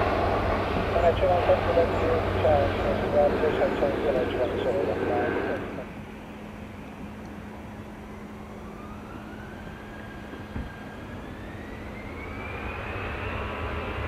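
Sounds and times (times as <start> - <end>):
jet engines spooling up: 0.0 - 14.0.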